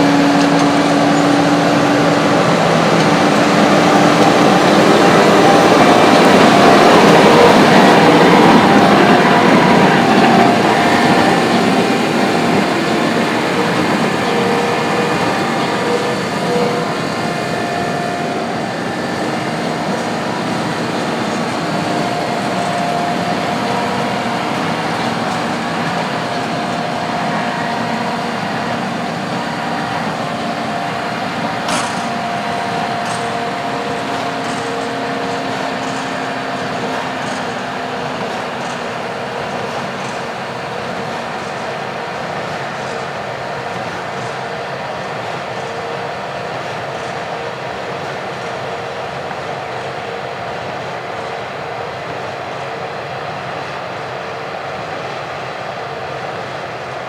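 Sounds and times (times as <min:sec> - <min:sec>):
heavy machinery droning: 0:00.0 - 0:57.0.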